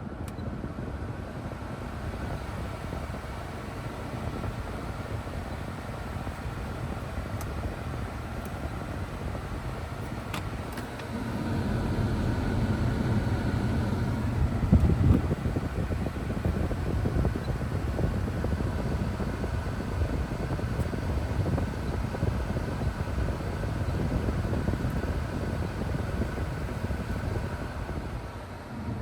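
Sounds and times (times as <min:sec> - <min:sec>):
car engine running: 0:01.3 - 0:28.3.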